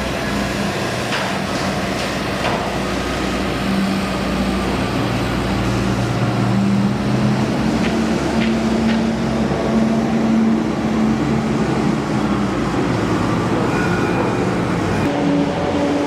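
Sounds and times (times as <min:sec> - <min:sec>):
engine running low drone: 0:00.0 - 0:16.0.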